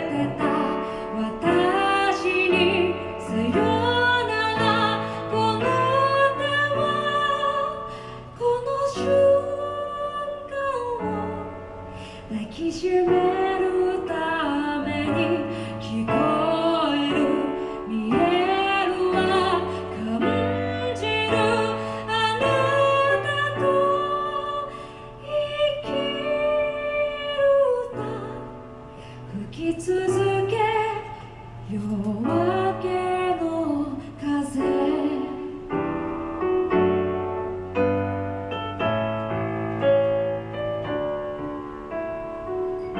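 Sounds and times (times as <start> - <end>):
woman singing: 0.0 - 36.2
piano accompaniment: 0.0 - 42.9.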